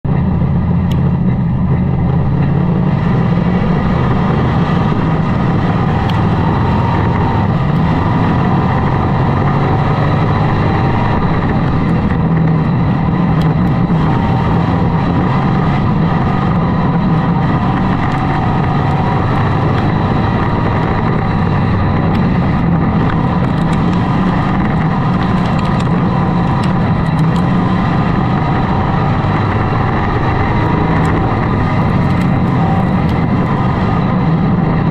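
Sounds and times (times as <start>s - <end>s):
race car engine running hard: 0.1s - 34.9s.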